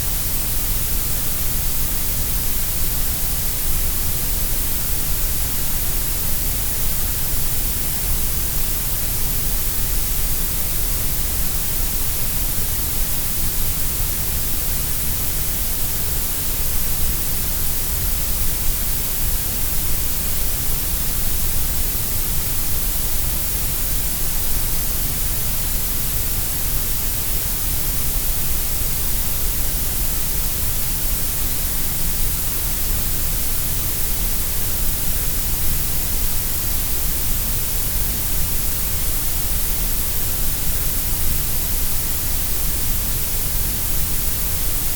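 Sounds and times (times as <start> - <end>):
synthetic grey noise hiss: 0.0 - 44.9.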